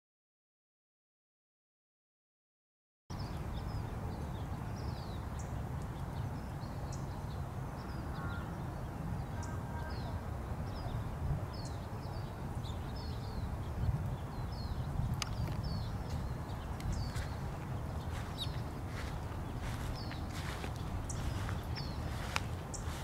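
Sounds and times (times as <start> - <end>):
small birds chirping: 3.1 - 23.0
steady low rumble: 3.1 - 23.0.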